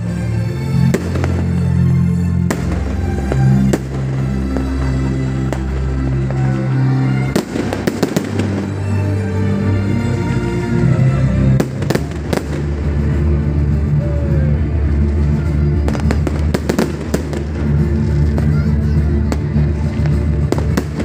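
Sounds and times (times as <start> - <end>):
music playing: 0.0 - 21.0.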